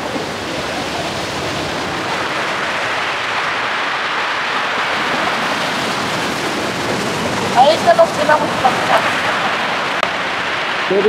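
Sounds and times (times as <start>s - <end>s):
surf washing over pebbles: 0.0s - 11.0s.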